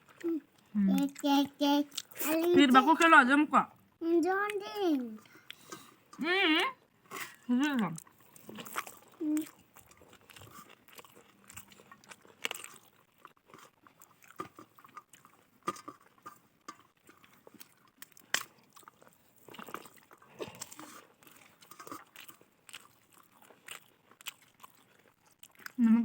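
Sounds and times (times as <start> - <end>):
person chewing food: 0.0 - 2.6, 5.2 - 6.2, 7.0 - 26.0.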